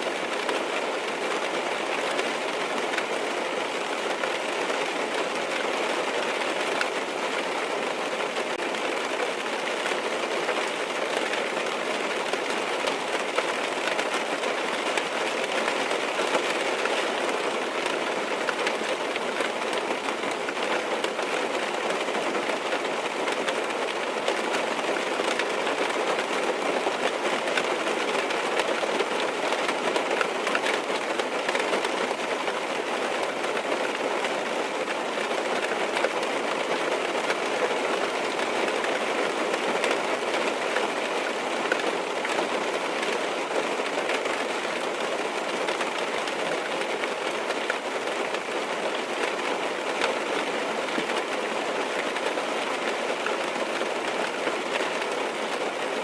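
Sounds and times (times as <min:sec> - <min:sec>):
rain pattering on a car roof: 0:00.0 - 0:56.0.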